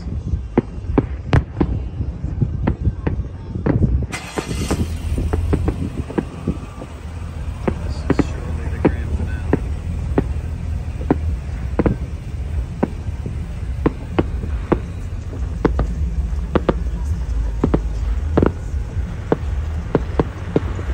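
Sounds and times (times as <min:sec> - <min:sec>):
distant fireworks bursting: 0:00.0 - 0:04.2, 0:05.2 - 0:20.9
low rumble: 0:00.0 - 0:20.9.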